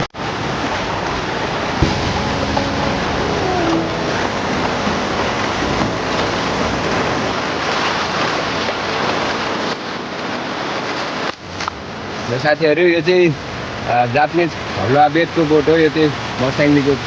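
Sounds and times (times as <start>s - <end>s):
river water rushing: 0.2s - 17.0s.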